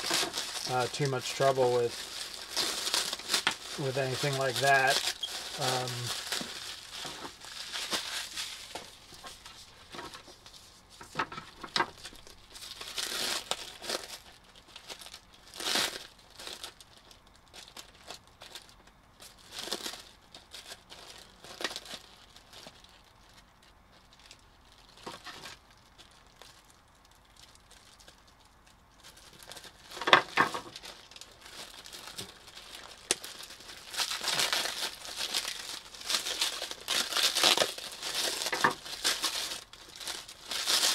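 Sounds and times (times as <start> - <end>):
plastic wrap crinkling: 0.0 - 40.9.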